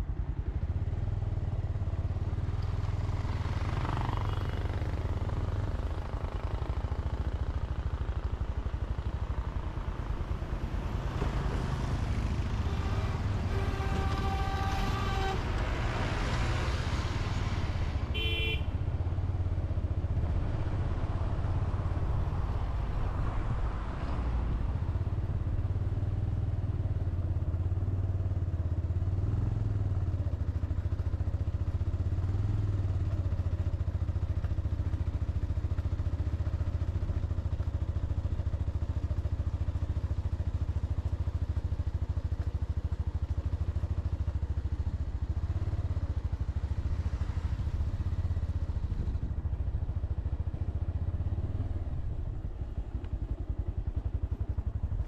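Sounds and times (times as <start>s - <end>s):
motorcycle engine running: 0.0s - 17.0s, 17.6s - 22.2s, 24.8s - 55.0s.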